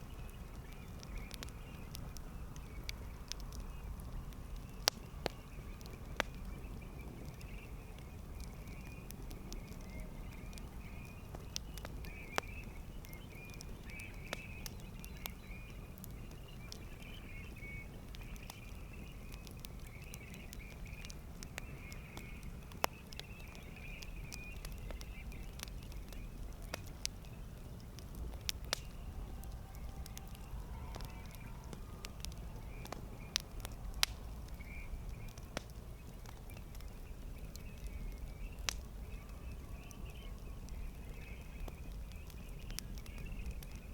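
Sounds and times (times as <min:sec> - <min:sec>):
campfire crackling and popping: 0:00.0 - 0:43.9
low rumble of flames: 0:00.0 - 0:43.9.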